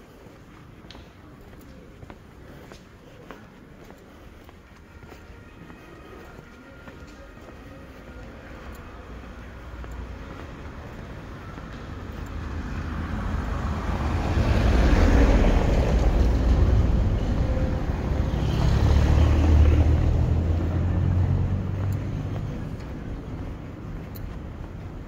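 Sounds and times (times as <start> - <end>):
tyre noise of passing vehicles: 0.0 - 25.0.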